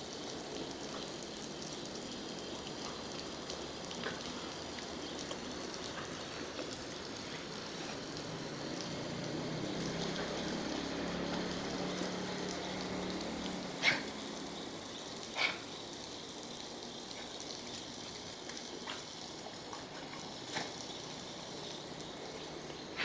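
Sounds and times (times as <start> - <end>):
hose spraying water on pavement: 0.0 - 23.0.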